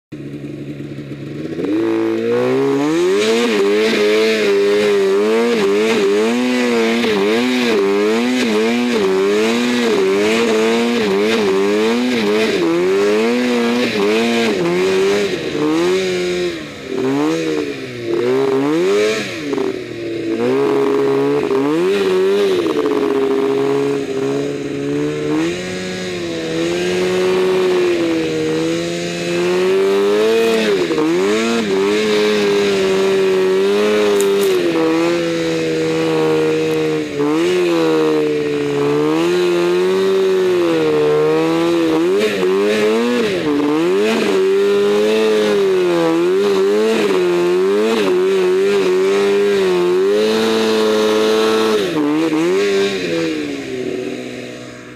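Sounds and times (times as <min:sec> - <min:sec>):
snowmobile engine revving: 0:00.2 - 0:54.9.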